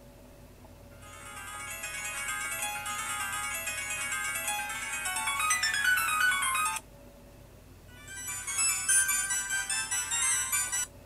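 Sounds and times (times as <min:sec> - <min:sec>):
electronic ringtone melody: 0:01.0 - 0:06.8, 0:07.9 - 0:10.9.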